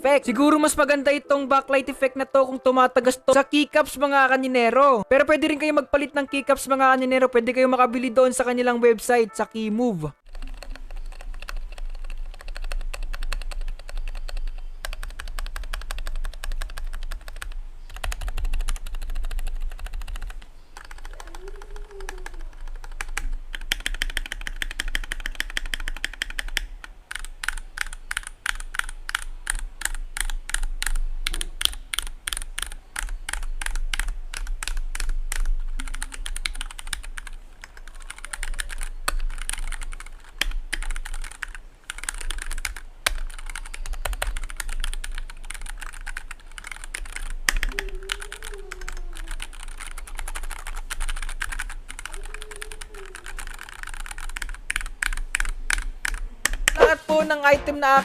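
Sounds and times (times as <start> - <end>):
typing on mechanical keyboard: 10.3 - 56.8.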